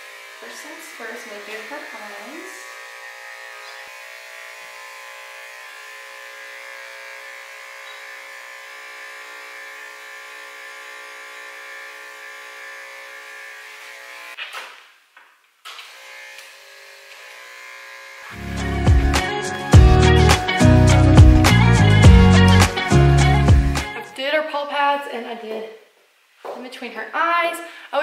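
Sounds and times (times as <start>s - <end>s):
electric clippers humming: 0.0s - 14.4s, 15.6s - 24.0s.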